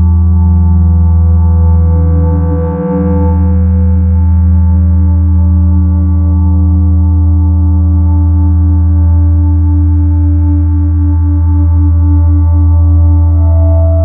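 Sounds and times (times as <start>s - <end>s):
low bass synthesizer drone: 0.0s - 14.0s.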